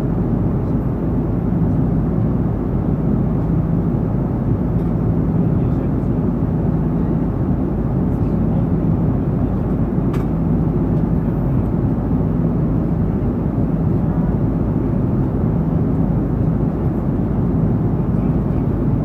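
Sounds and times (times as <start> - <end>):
airflow rush in aircraft cabin: 0.0 - 19.0
jet engine drone: 0.0 - 19.0.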